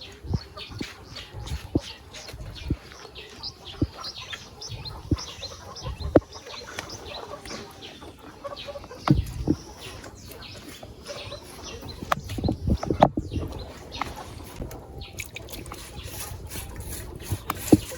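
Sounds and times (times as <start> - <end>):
birds chirping: 0.0 - 17.9
chickens clucking: 0.0 - 17.9.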